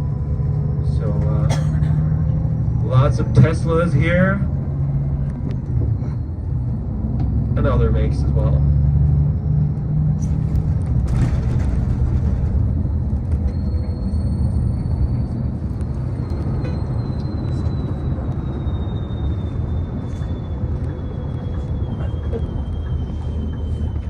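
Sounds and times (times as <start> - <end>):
vehicle low rumble: 0.0 - 24.0.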